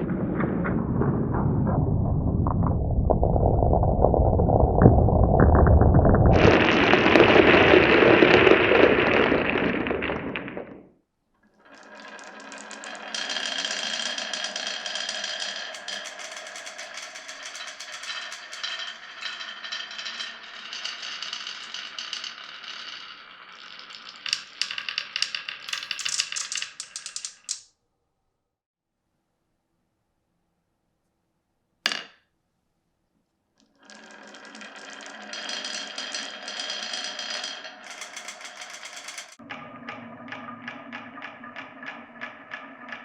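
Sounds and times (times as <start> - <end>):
glass marbles rolling on wood: 0.8 - 10.9, 11.6 - 27.6, 33.7 - 43.0.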